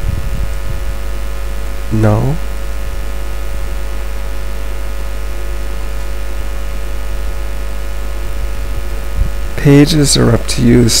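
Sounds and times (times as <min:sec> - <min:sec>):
constant hiss: 0:00.0 - 0:11.0
electrical mains hum: 0:00.0 - 0:11.0.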